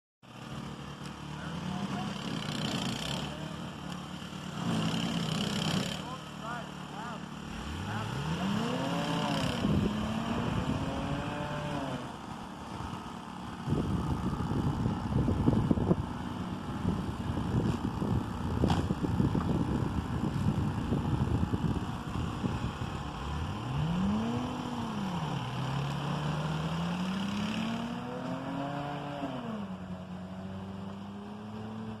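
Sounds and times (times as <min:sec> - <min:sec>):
tyres churning through snow: 0:00.3 - 0:32.0
car engine revving: 0:00.4 - 0:32.0.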